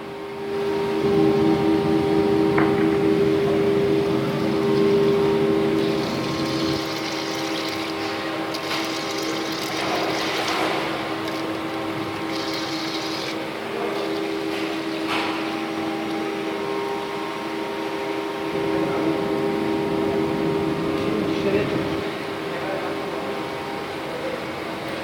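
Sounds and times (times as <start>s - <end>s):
machine hum of two tones: 0.0s - 25.0s.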